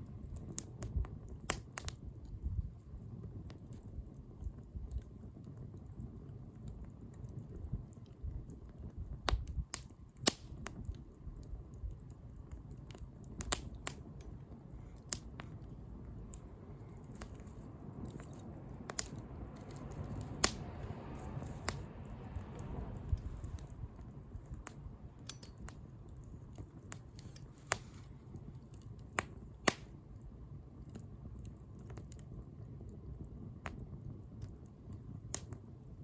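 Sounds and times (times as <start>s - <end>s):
bonfire flames rumbling: 0.0s - 36.0s
fire pops and crackles: 0.0s - 36.0s.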